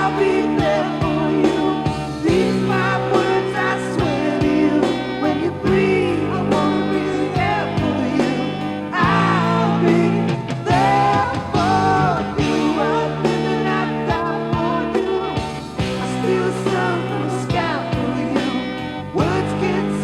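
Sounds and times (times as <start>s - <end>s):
rock song through speakers: 0.0s - 20.0s.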